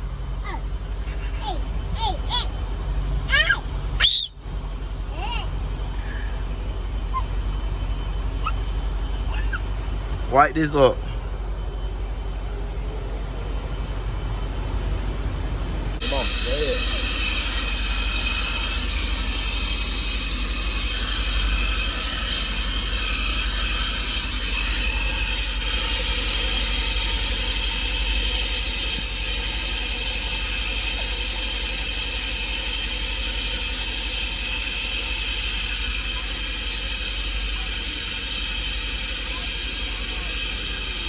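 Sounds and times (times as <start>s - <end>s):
car wash equipment hissing: 0.0s - 41.0s.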